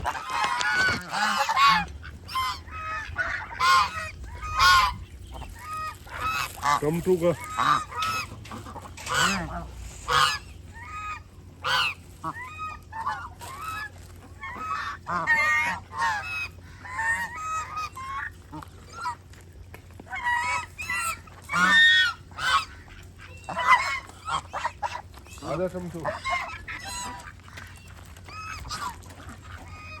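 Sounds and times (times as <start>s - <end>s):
waterfowl honking: 0.0s - 30.0s.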